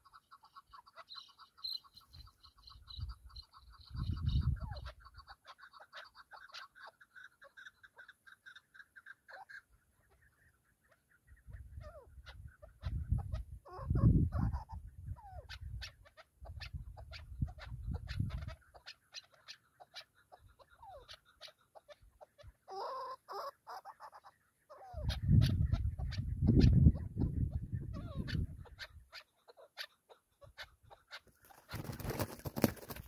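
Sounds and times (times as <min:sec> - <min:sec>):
partridges clucking and calling: 0:00.0 - 0:33.0.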